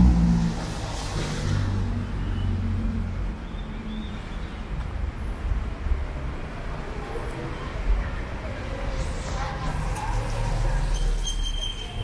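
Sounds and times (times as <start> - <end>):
low rumble of street traffic: 0.0 - 12.0.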